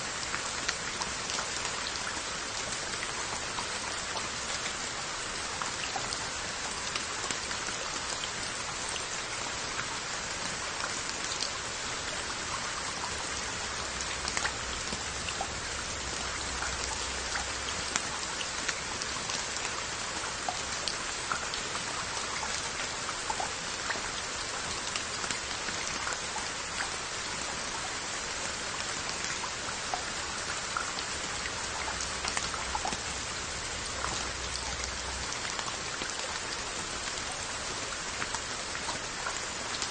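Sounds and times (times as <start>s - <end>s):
rain hiss: 0.0s - 39.9s
raindrops ticking on pottery: 0.0s - 39.9s.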